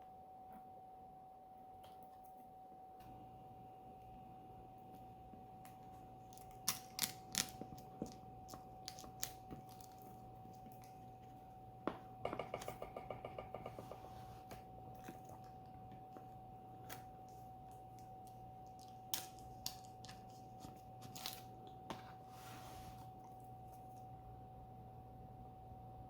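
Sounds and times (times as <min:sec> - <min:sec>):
steady high hum: 0:00.0 - 0:26.0.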